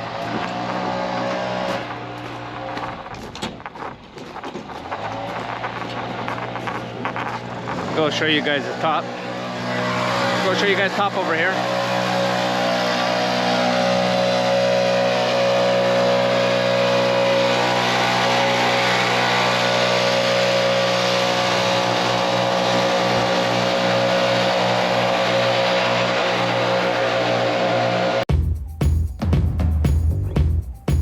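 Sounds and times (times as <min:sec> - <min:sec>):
small gas engine running: 0:00.0 - 0:03.4, 0:04.6 - 0:28.2.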